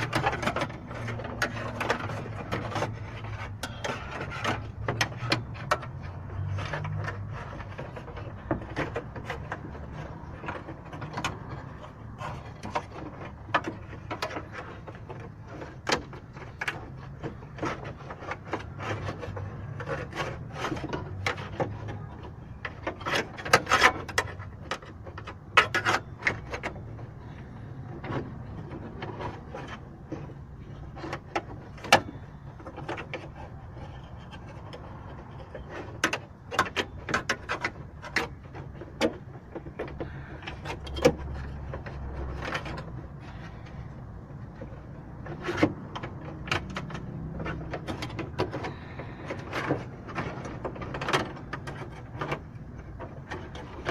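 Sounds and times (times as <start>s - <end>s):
clicks and scraping of metal parts: 0.0s - 53.9s.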